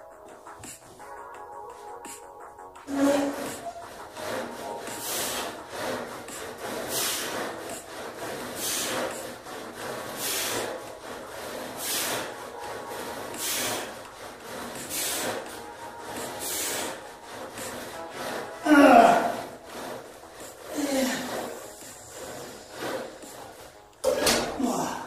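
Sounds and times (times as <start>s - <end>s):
rasping noise of calf raises: 0.1s - 25.0s.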